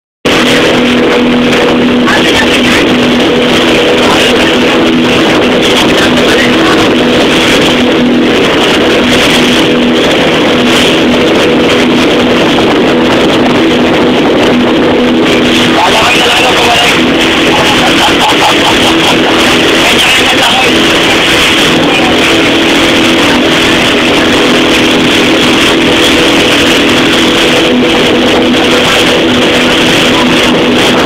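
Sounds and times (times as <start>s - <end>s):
boat engine drone: 0.2s - 31.0s
rush of wind and water: 0.2s - 31.0s.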